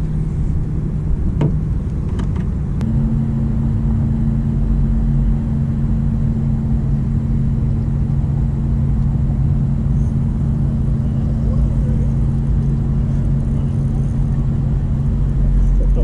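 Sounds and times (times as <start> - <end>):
low motor hum: 0.0 - 16.0
steady low rumble: 0.0 - 16.0.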